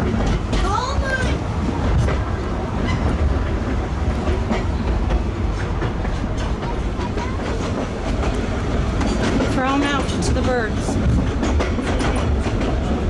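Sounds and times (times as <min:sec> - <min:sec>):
railway car rumble: 0:00.0 - 0:13.0
wheels clattering over rails: 0:00.0 - 0:13.0.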